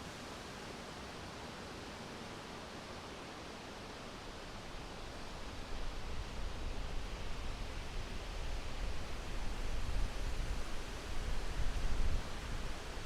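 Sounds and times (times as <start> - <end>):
wind rustling leaves: 0.0 - 13.0.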